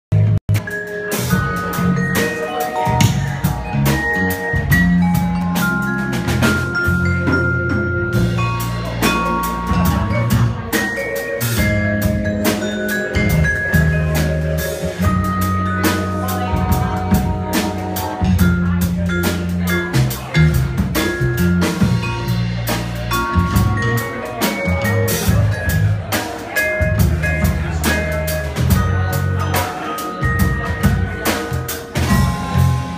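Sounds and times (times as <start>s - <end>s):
band playing instrumental: 0.2s - 32.9s
drum kit beat: 0.2s - 32.9s.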